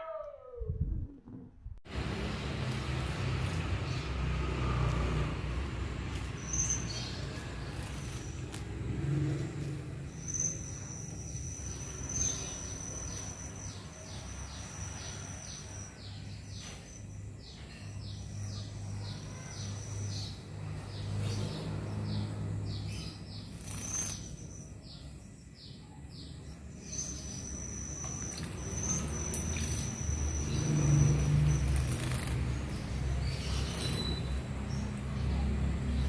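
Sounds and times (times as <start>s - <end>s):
nestling bird chirping: 6.1s - 36.0s.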